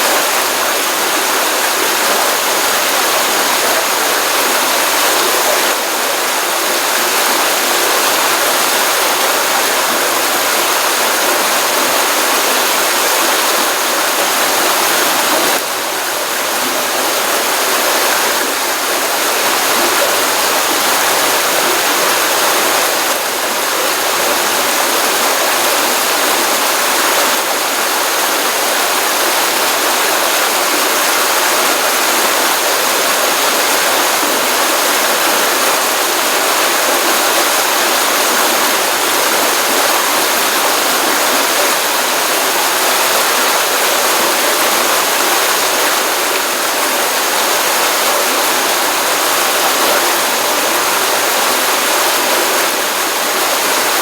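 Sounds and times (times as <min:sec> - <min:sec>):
stream water rushing and splashing: 0:00.0 - 0:54.0.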